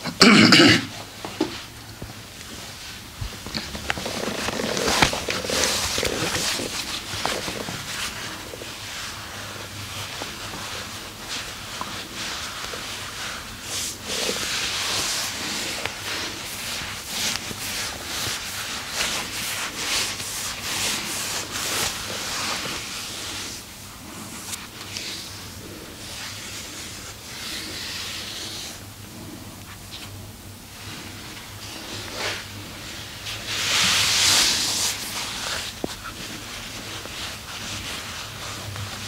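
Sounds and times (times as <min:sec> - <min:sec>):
hands rubbing over skin: 0:02.4 - 0:30.1, 0:30.7 - 0:39.0.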